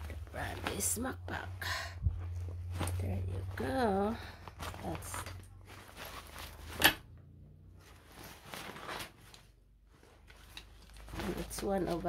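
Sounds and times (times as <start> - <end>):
fabric and packaging rustling: 0.0 - 12.0.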